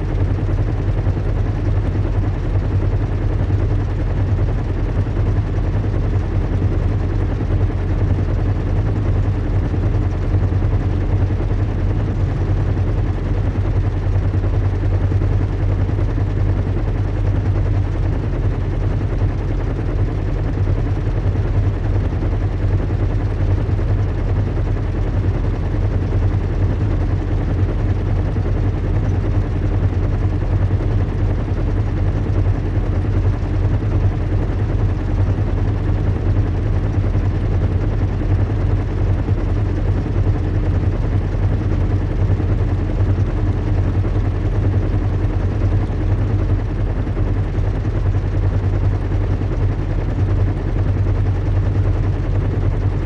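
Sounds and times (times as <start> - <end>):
low engine hum: 0.0 - 53.0.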